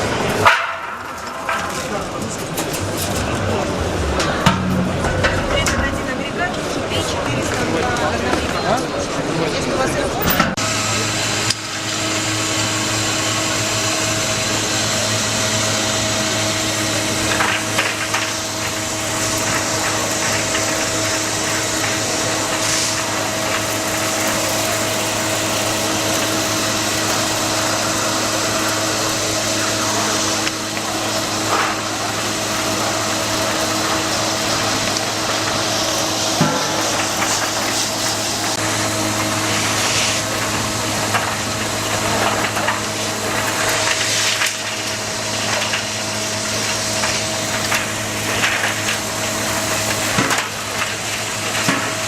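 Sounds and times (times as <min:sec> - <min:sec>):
industrial vacuum running: 0:00.0 - 0:52.0.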